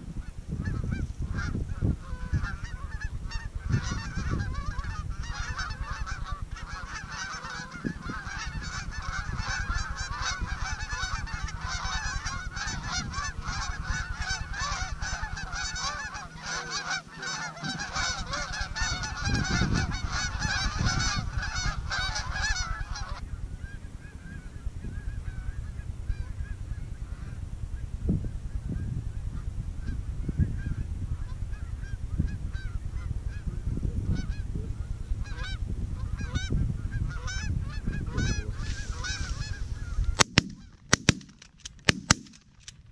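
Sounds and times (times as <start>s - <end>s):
wind rumble on microphone: 0.0s - 42.9s
geese honking: 0.6s - 23.2s, 30.6s - 42.5s.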